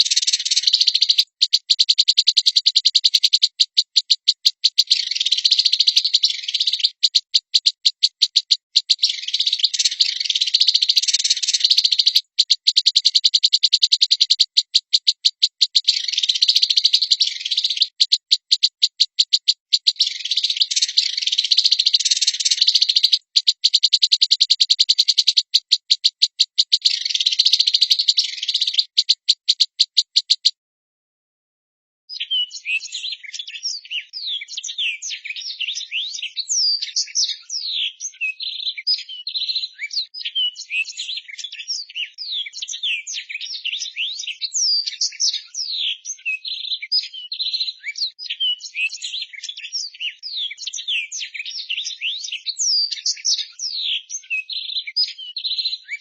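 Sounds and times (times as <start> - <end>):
small bird clicking call: 0.0 - 30.6, 32.1 - 55.2.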